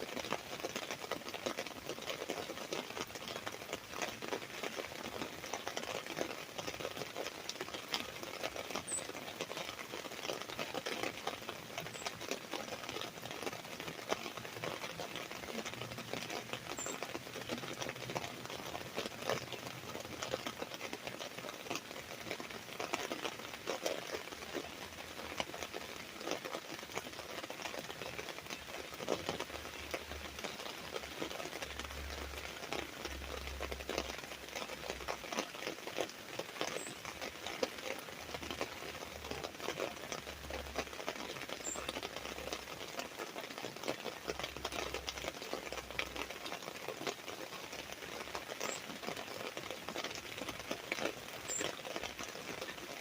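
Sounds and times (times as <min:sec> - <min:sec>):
rain on an umbrella: 0:00.0 - 0:53.0.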